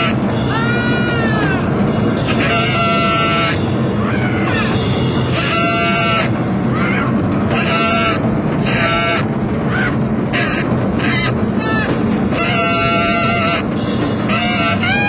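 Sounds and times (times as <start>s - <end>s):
jazz band playing: 0.0s - 6.6s, 7.4s - 9.4s, 10.2s - 15.0s
saxophone raspy high cries: 0.0s - 15.0s.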